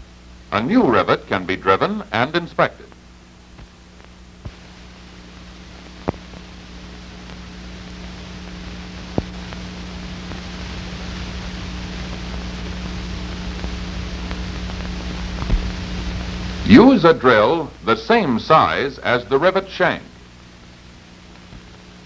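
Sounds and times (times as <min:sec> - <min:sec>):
film soundtrack hiss and hum: 0:00.0 - 0:22.0.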